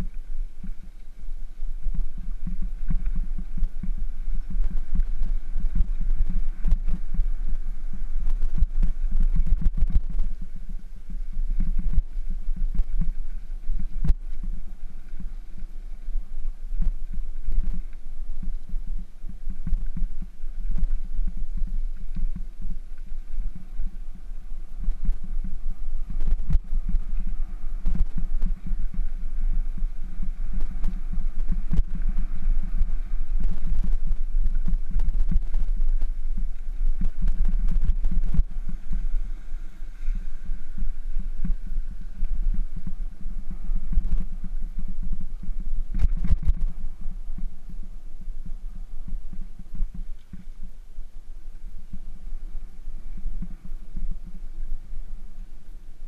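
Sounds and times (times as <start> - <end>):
wind and vibration rumble: 0.0 - 56.0.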